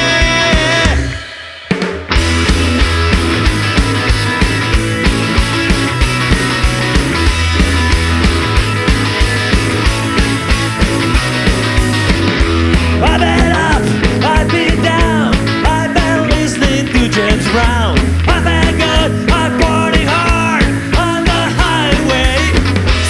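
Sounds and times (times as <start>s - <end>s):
steady bass: 0.0s - 1.2s, 2.1s - 23.0s
distorted guitars: 0.0s - 23.0s
fast drum hits: 0.0s - 23.0s
bending lead guitar melody: 2.1s - 23.0s.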